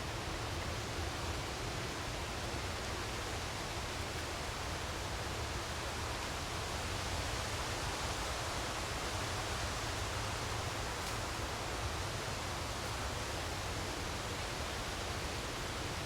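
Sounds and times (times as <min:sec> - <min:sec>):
steady wind: 0:00.0 - 0:16.0.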